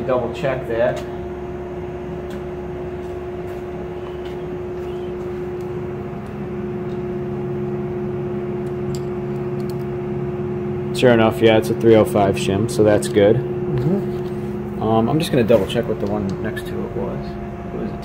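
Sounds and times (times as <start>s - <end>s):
lower hum: 0.0s - 18.0s
steady mechanical hum: 0.0s - 18.0s.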